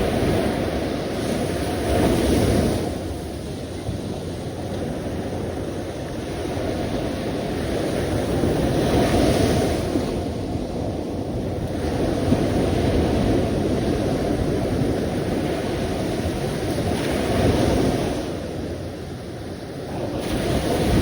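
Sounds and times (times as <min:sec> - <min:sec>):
sea waves on the shore: 0:00.0 - 0:21.0
wind buffeting microphone: 0:00.0 - 0:21.0.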